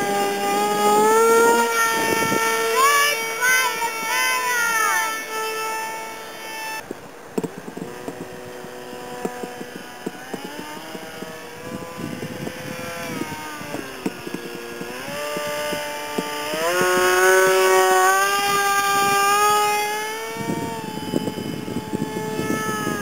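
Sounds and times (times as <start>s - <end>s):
model plane motor whining: 0.0s - 23.0s.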